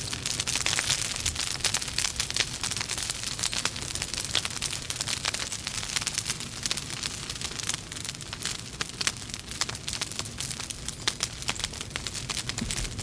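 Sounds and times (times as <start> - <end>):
logs crackling and popping: 0.0 - 13.0.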